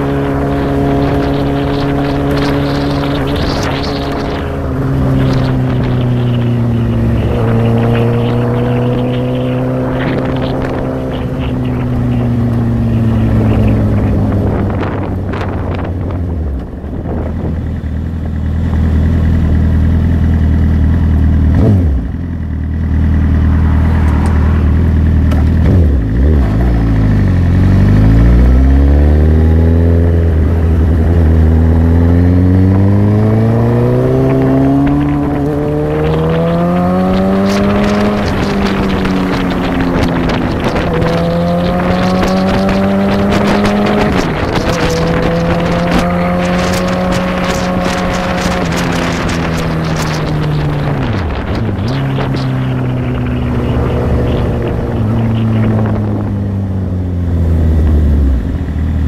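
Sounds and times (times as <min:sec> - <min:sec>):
wind buffeting microphone: 0:00.0 - 0:18.9, 0:23.6 - 0:58.9
motorcycle engine accelerating: 0:00.0 - 0:59.0.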